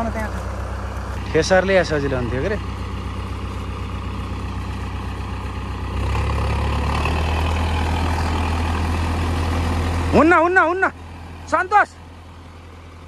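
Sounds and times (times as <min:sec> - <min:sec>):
tractor diesel engine revving: 0:00.0 - 0:13.0.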